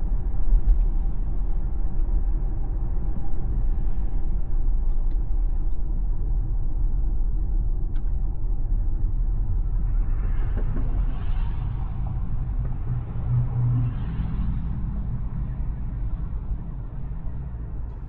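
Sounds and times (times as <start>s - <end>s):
road and tyre rumble: 0.0s - 18.0s.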